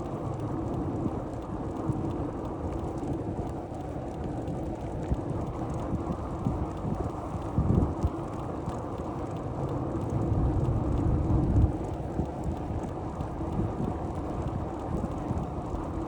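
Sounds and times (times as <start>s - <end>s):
bicycle tyre and road rumble: 0.0s - 16.0s
wind buffeting microphone: 0.0s - 16.0s.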